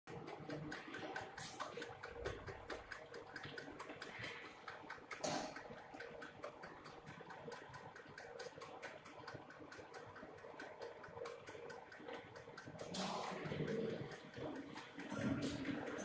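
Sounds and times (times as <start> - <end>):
conveyor running hum: 0.1 - 16.0
plastic bottles ticking on conveyor: 0.1 - 16.0.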